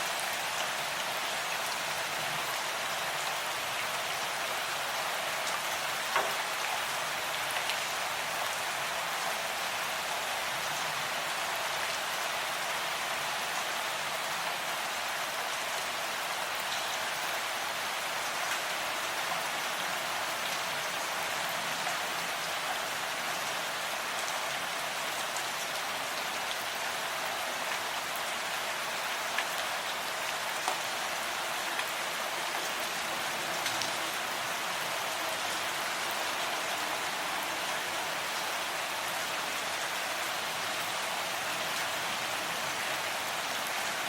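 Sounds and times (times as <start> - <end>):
rain pattering: 0.0 - 44.0.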